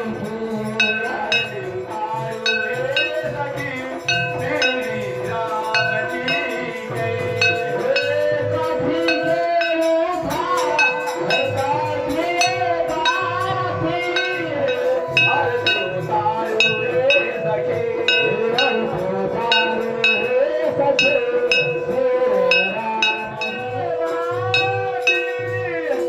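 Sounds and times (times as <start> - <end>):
bright metallic chiming strikes: 0.0 - 26.0
held melody line: 0.0 - 26.0
low beat: 0.0 - 26.0.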